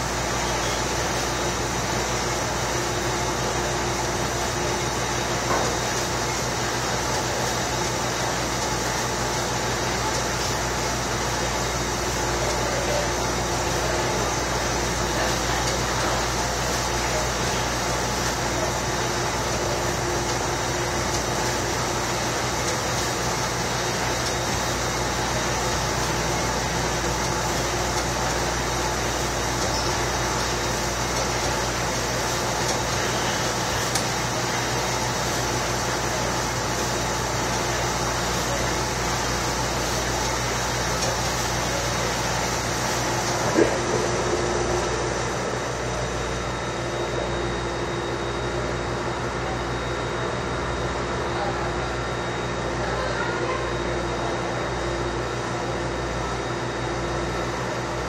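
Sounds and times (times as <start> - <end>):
dishwasher running: 0.0 - 58.0.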